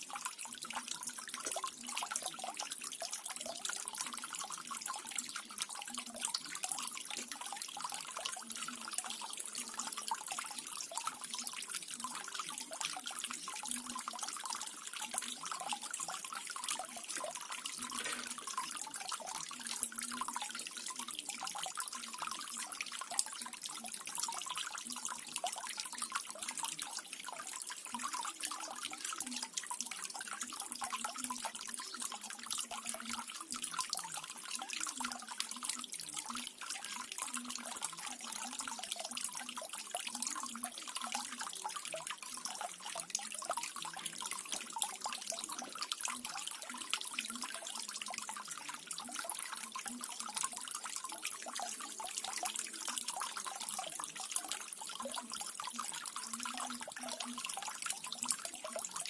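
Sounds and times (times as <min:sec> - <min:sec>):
fine water drips: 0:00.0 - 0:59.0.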